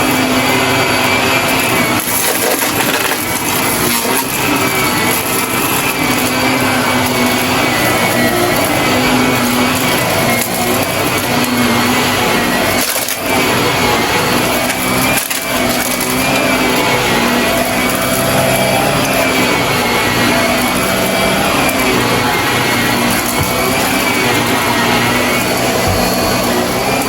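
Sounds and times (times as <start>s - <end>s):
vacuum cleaner motor whine: 0.0s - 27.0s.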